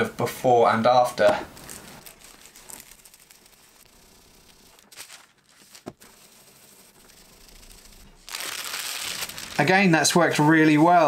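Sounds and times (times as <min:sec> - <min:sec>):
iron rustling over paper: 0:01.2 - 0:11.0.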